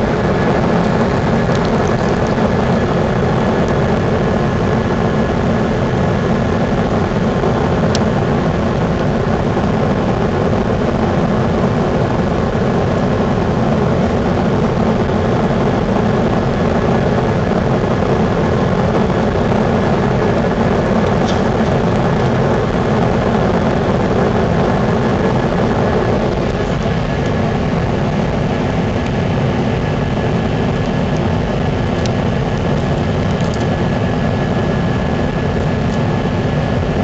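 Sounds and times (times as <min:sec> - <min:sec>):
jet engine drone: 0:00.0 - 0:37.0
thin steady whine: 0:00.0 - 0:37.0.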